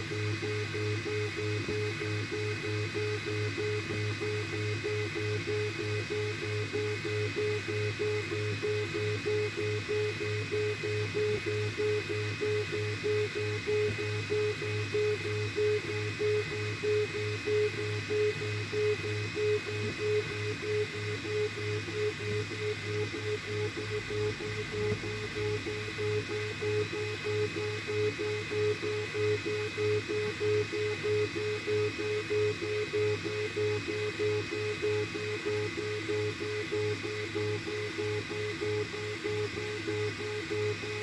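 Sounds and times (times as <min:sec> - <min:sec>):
steady high hum: 0:00.0 - 0:41.0.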